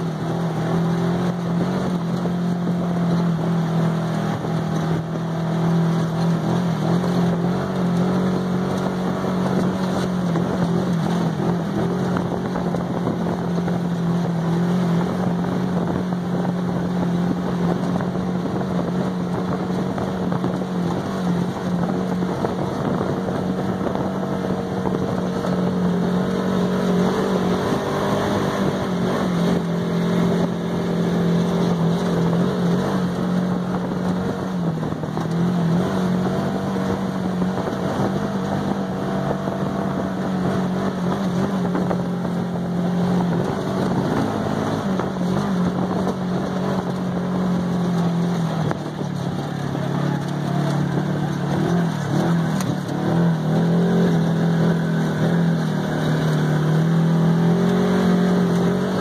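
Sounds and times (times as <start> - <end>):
rumble of the ride: 0.0 - 59.0
vehicle engine running: 0.0 - 59.0.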